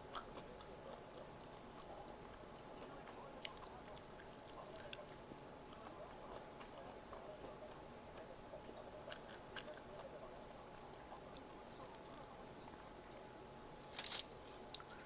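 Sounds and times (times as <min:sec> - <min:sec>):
chewing food: 0:00.0 - 0:12.9, 0:13.9 - 0:15.0
steady low hum: 0:00.0 - 0:15.0.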